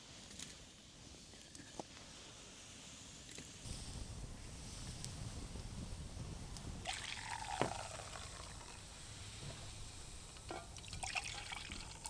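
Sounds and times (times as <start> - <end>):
campfire crackles: 0.1 - 12.0.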